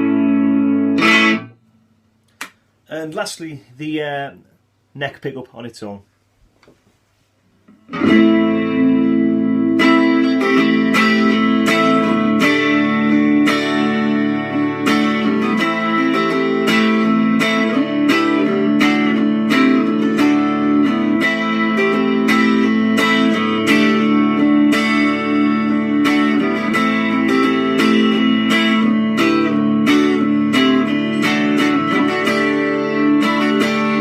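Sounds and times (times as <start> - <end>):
electric guitar strummed chords: 0.0 - 1.6, 7.8 - 34.0.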